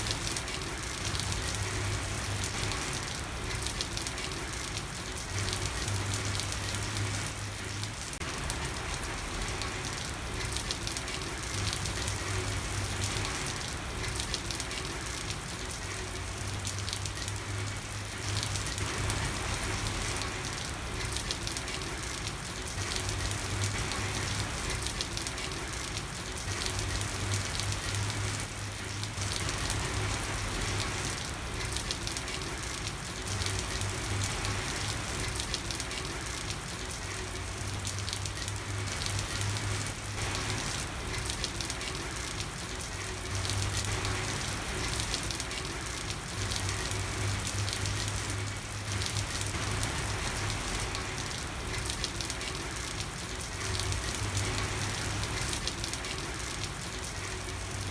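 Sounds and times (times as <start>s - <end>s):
rain falling on a street: 0.0s - 57.9s.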